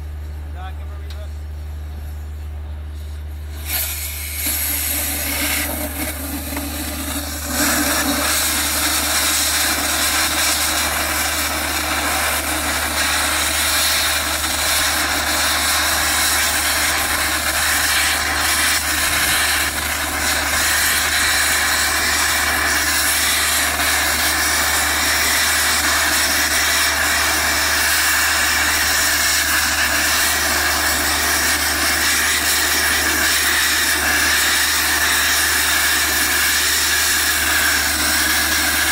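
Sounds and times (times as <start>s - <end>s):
thermal lance hissing: 3.5s - 38.9s.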